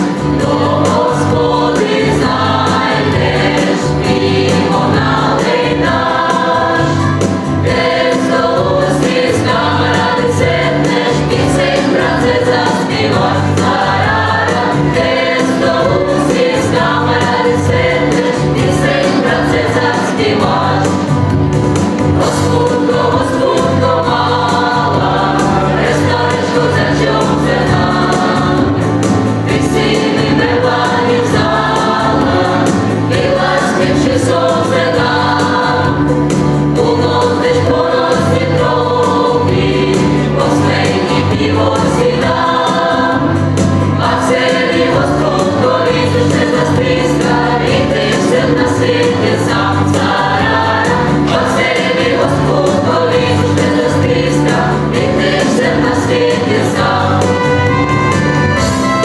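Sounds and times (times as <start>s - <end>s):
bass accompaniment: 0.0s - 59.0s
mixed choir singing: 0.0s - 59.0s.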